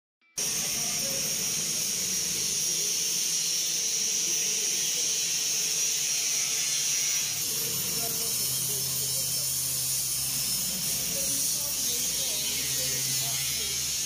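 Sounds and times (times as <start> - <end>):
high-pitched hiss: 0.4 - 14.0.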